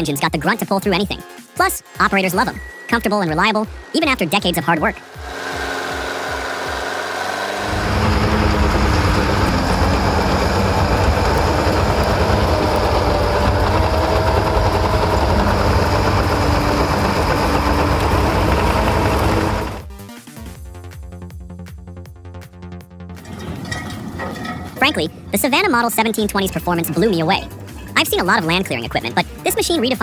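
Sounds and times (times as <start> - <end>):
diesel engine running: 2.1 - 19.9, 23.2 - 30.0.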